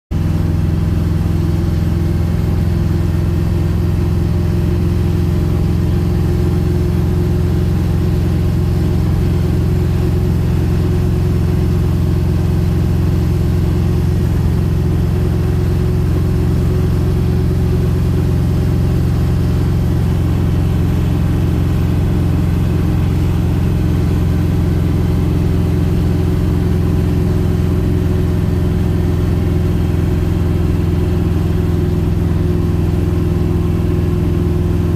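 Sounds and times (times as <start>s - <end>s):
car engine cruising drone: 0.1s - 34.9s.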